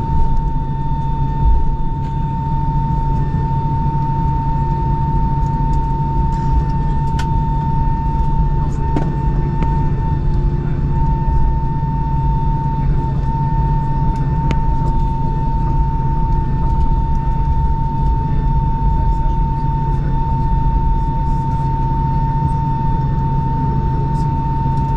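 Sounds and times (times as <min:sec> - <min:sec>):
high engine whine: 0:00.0 - 0:24.9
jet engines idling rumble: 0:00.0 - 0:24.9.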